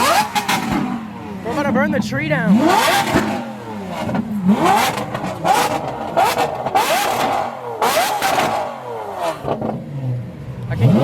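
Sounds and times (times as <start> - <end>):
car engine revving: 0.0 - 11.0
exhaust cracks: 0.0 - 11.0.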